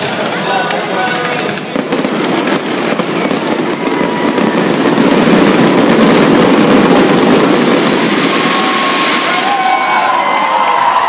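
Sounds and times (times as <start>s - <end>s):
fireworks popping and banging: 0.0s - 10.4s.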